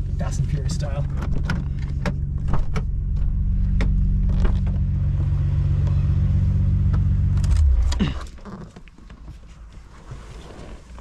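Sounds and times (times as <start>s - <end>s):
car engine drone: 0.0s - 9.6s
road noise: 0.0s - 10.7s.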